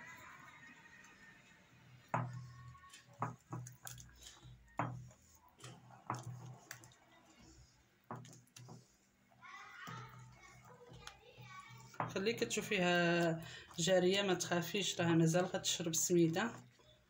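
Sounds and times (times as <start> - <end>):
batter squishing: 0.0 - 17.0.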